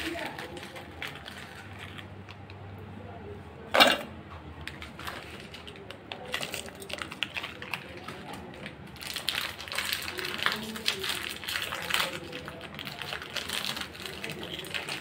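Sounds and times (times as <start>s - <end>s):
biscuits clicking and crunching: 0.0s - 2.7s, 3.8s - 15.0s.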